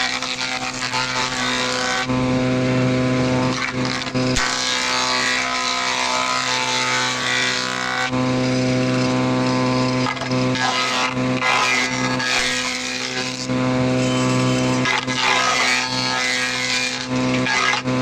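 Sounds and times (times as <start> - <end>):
planing machine motor hum: 0.0 - 18.0.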